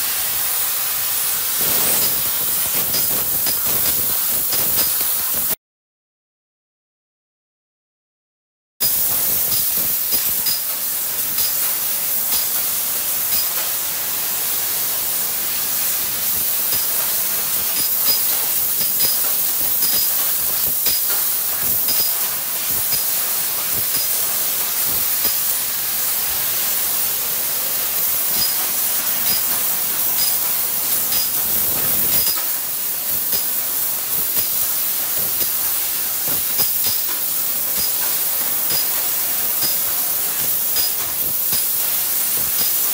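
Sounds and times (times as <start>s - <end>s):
high hiss of gas jet: 0.0s - 5.6s, 8.8s - 42.9s.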